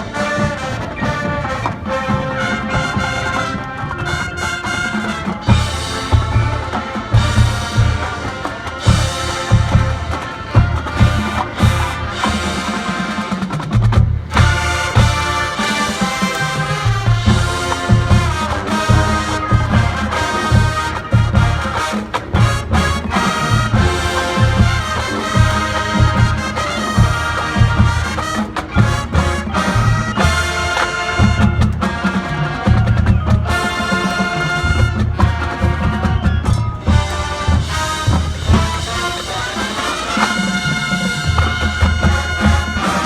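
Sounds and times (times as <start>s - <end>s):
brass section playing: 0.0s - 43.0s
drumline: 0.0s - 43.0s.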